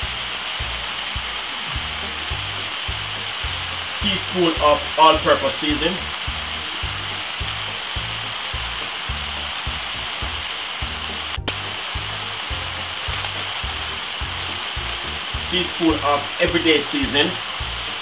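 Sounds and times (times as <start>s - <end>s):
background music with low beat: 0.0s - 18.0s
meat sizzling in a frying pan: 0.0s - 18.0s.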